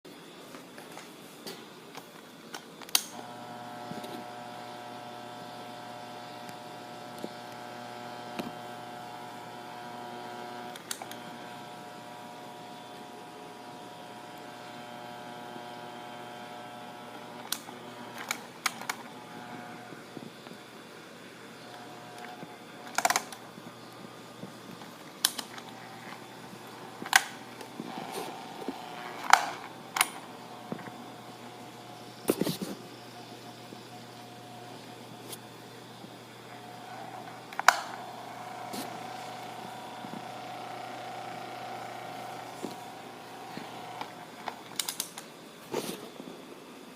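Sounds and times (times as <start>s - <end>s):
electric fan buzzing hum: 2.4s - 46.9s.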